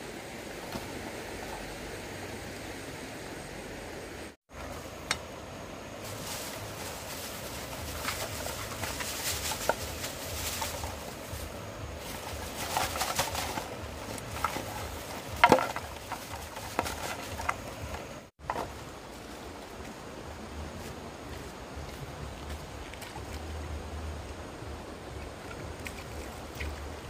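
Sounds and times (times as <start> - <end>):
stream rushing: 0.0 - 27.0.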